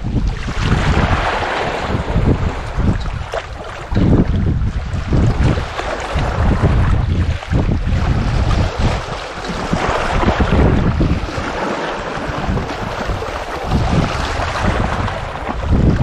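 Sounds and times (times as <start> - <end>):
wind buffeting microphone: 0.0 - 16.0
small waves lapping on rocks: 0.2 - 16.0.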